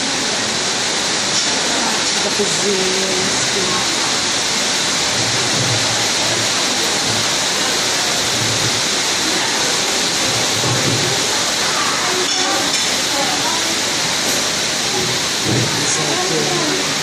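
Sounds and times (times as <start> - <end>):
hail and heavy rain: 0.0 - 17.0.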